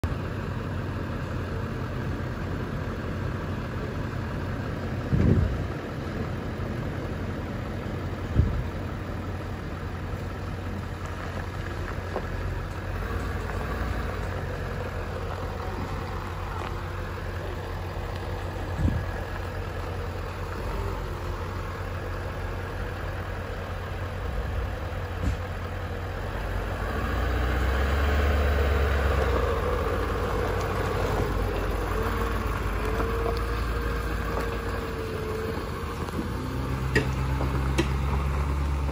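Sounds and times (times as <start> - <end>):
pickup truck engine running: 0.0 - 38.9.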